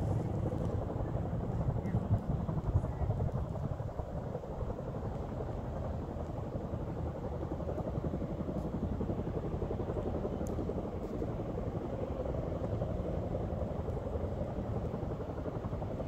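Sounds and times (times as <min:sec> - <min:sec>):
helicopter rotors beating: 0:00.0 - 0:16.0.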